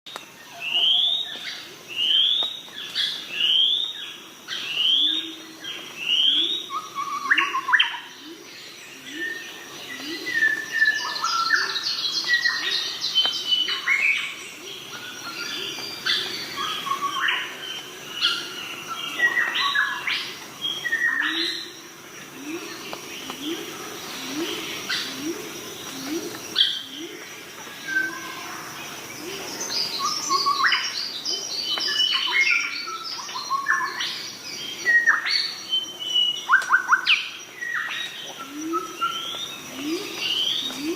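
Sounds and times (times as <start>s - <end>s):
birds whistling and chirping: 0.5s - 28.5s, 29.2s - 40.9s.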